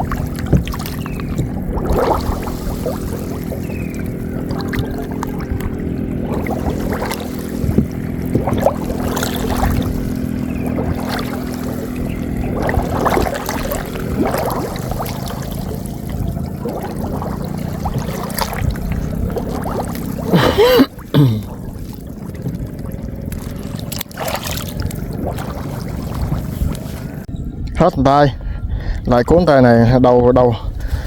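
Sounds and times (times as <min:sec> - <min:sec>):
water splashing and dripping: 0:00.0 - 0:27.3
steady low hum: 0:00.0 - 0:27.7.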